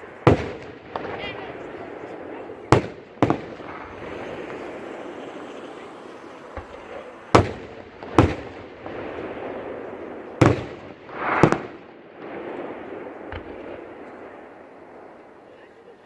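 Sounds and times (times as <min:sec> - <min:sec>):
fireworks shells bursting: 0:00.0 - 0:14.2
fireworks rushing crackle: 0:00.0 - 0:15.6.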